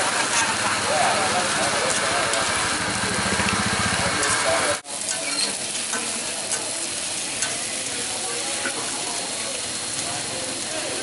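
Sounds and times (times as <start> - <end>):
sausages sizzling on a griddle: 0.0 - 11.0.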